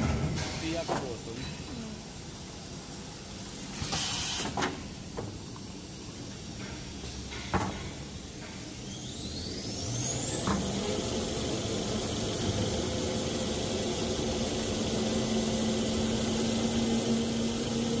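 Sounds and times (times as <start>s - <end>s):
machine whine and hum: 0.0s - 18.0s.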